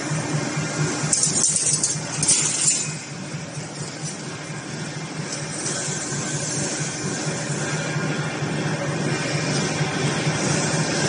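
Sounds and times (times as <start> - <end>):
machine humming with pulses: 0.0 - 11.0
metallic rattling and hissing: 0.8 - 11.0.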